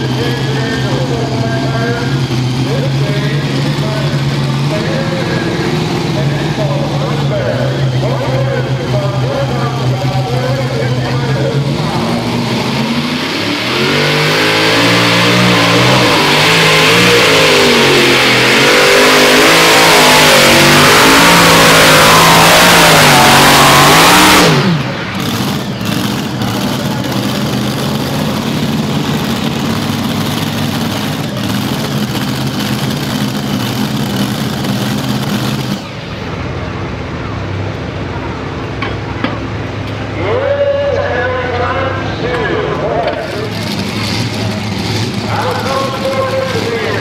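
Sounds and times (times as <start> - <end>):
pulling tractor engines roaring: 0.0 - 47.0
tractor engines idling: 0.0 - 47.0.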